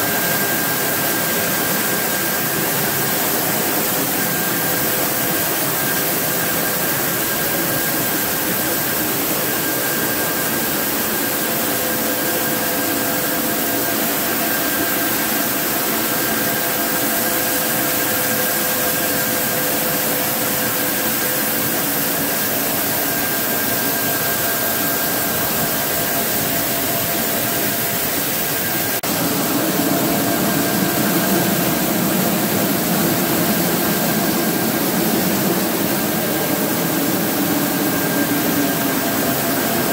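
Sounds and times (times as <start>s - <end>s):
mill machinery running: 0.0s - 39.9s.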